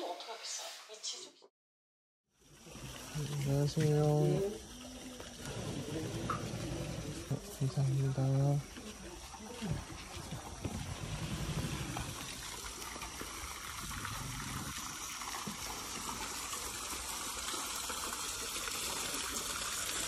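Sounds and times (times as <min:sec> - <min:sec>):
water trickling: 0:02.3 - 0:20.0.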